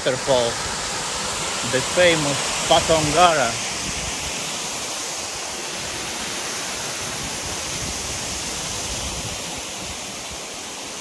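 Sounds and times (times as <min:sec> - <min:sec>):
water rushing over spillway: 0:00.0 - 0:11.0.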